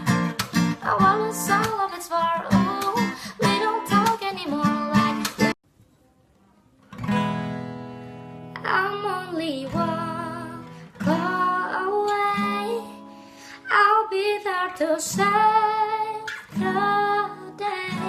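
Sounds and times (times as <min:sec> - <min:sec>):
acoustic guitar chords: 0:00.0 - 0:05.6, 0:06.9 - 0:18.0
woman singing: 0:00.0 - 0:05.6, 0:08.5 - 0:18.0.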